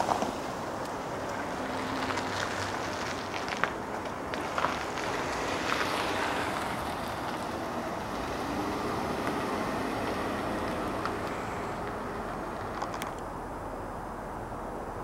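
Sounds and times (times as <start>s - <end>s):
car driving away: 0.0s - 15.0s.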